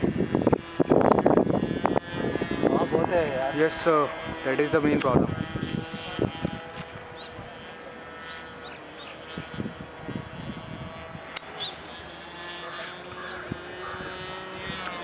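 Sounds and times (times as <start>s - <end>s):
model plane engine drone: 0.0s - 15.0s.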